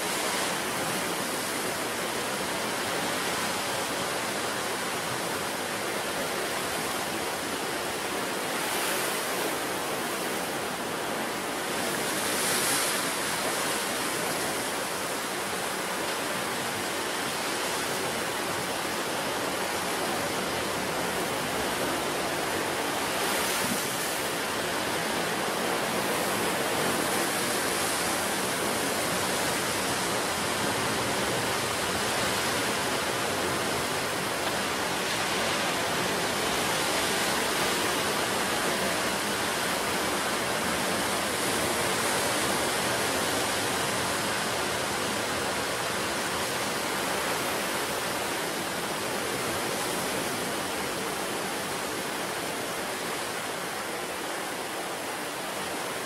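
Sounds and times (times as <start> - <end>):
ocean surf breaking waves: 0.0 - 56.0.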